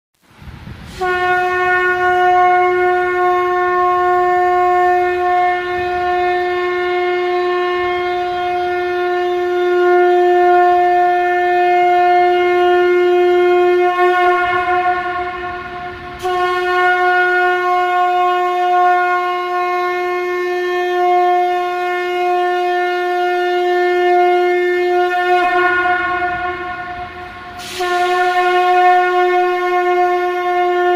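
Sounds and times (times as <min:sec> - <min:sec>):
conch shell blasts: 0:00.9 - 0:30.9.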